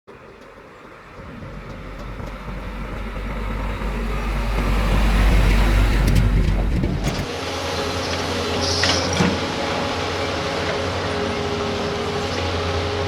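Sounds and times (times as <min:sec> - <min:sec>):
heavy diesel engine rumbling: 0:00.1 - 0:13.0.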